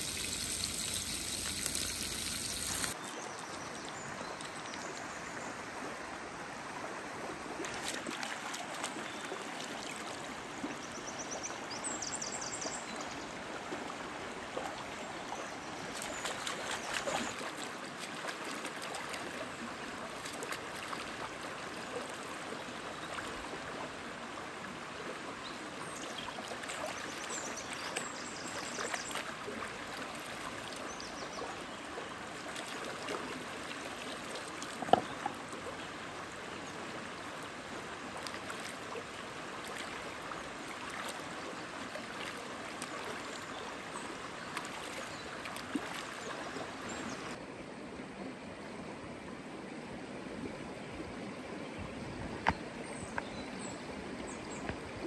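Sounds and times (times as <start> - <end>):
stream running over stones: 0.0 - 48.0.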